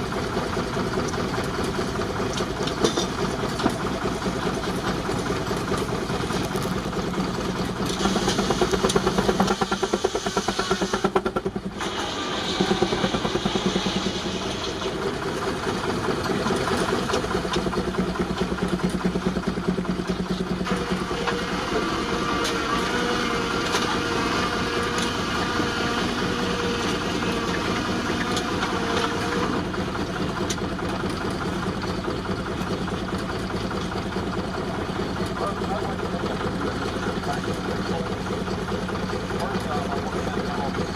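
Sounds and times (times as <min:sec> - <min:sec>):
steam traction engine exhaust beating: 0:00.0 - 0:40.9.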